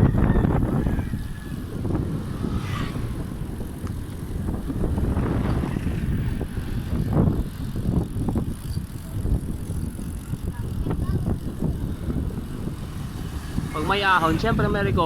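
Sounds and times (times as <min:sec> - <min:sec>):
tyre and road noise: 0:00.0 - 0:15.0
wind rumbling on microphone: 0:00.0 - 0:15.0.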